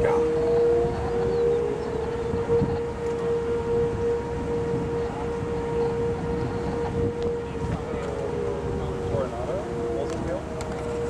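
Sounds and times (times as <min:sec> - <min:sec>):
warning siren steady tone: 0:00.0 - 0:11.0.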